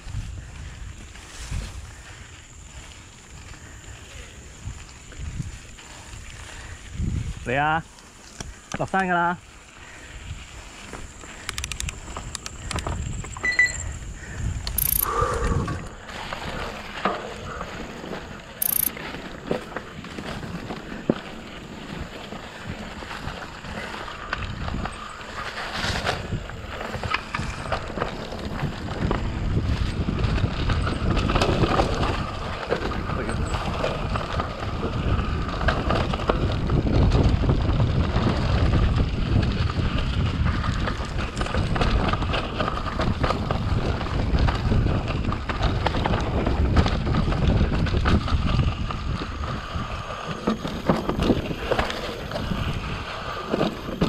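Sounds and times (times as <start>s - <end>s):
wind buffeting microphone: 0.0s - 8.7s, 9.8s - 16.8s, 20.2s - 54.0s
bike rattling over bumps: 0.0s - 15.2s, 15.8s - 54.0s.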